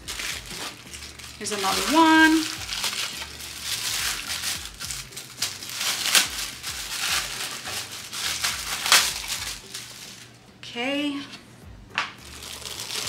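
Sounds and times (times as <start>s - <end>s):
plastic bag crinkling: 0.0s - 10.4s, 12.2s - 13.0s.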